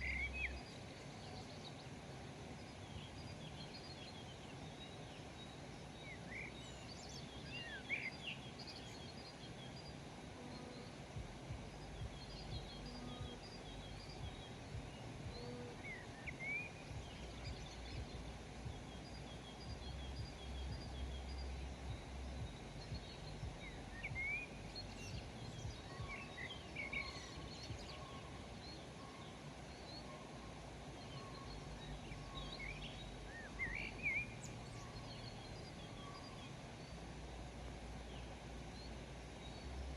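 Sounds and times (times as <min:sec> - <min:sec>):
low background rumble: 0:00.0 - 0:39.9
small birds chirping: 0:00.0 - 0:39.9.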